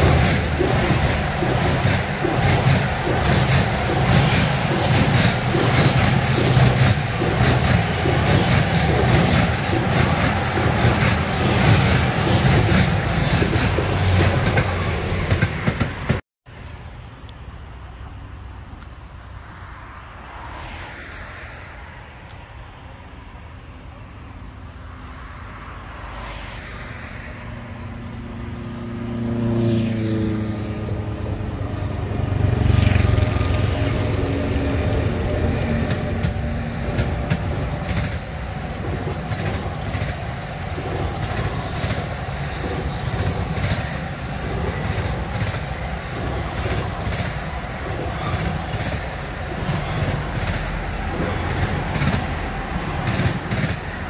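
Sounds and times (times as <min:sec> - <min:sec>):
electric locomotive passing: 0:00.0 - 0:54.0.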